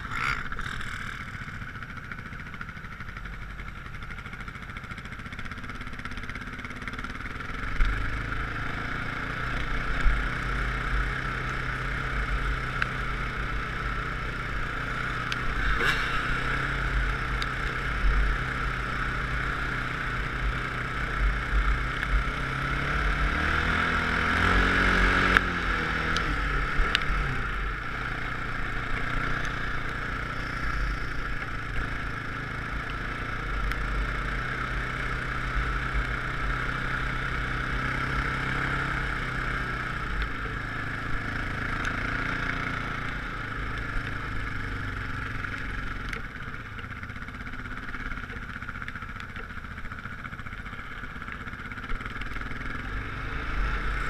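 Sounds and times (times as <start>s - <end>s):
off-road vehicle engine revving: 0.0s - 1.9s, 5.5s - 54.0s.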